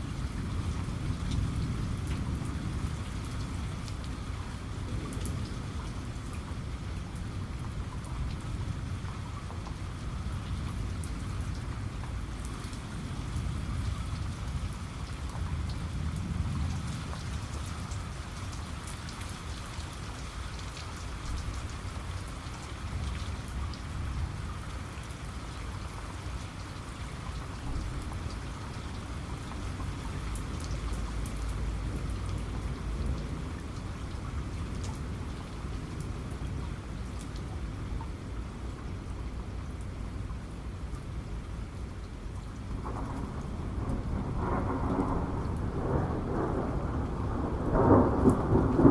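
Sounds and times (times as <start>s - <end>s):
continuous low rumble: 0.0s - 48.9s
raindrops ticking on a surface: 0.0s - 48.9s
steady rain: 0.0s - 48.9s.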